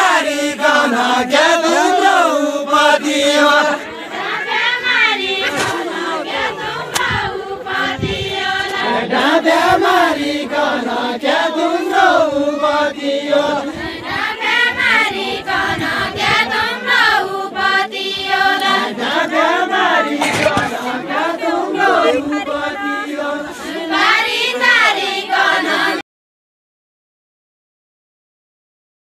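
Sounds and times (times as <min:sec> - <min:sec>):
group singing folk song: 0:00.0 - 0:26.0.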